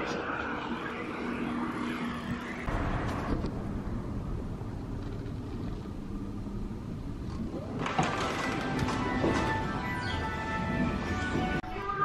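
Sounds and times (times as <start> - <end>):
low rumble of street noise: 0.0 - 12.0.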